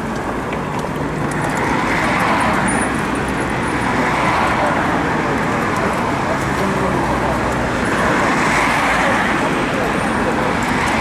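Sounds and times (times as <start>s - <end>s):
road traffic rushing past: 0.0s - 11.0s.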